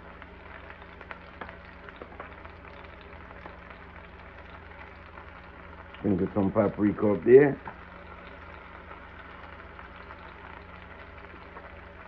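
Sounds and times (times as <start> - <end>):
steady low hum: 0.0 - 12.0
vegetables frying in oil: 0.0 - 12.0.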